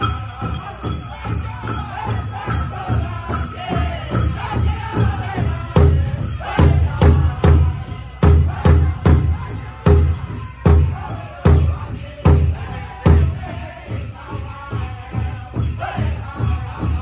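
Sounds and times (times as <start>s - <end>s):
people singing: 0.0s - 17.0s
steady bass drumbeat: 0.4s - 17.0s.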